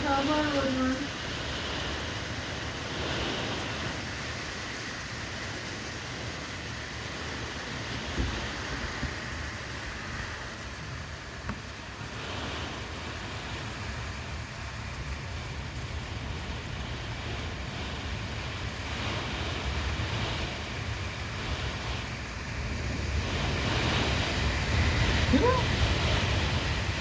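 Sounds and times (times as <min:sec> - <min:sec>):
strong wind gusting: 0:00.0 - 0:27.0
wind buffeting microphone: 0:00.0 - 0:27.0.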